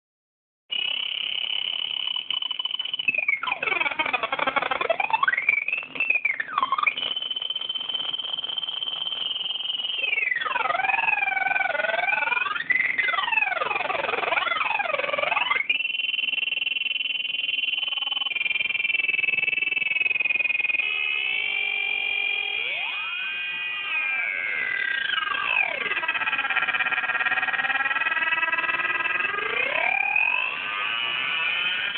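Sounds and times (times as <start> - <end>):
high electronic tones shifting pitch: 0.7 - 31.9.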